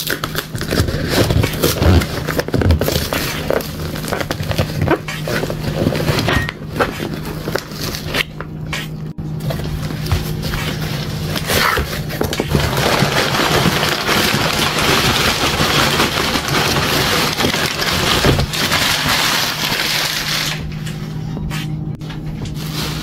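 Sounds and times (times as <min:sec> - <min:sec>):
packaging crinkling and tearing: 0:00.0 - 0:08.4, 0:09.5 - 0:20.8.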